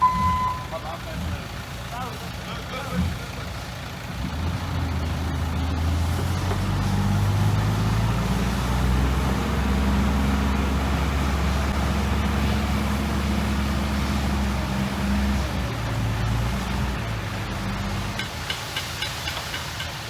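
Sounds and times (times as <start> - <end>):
heavy diesel engine droning: 0.0 - 18.3.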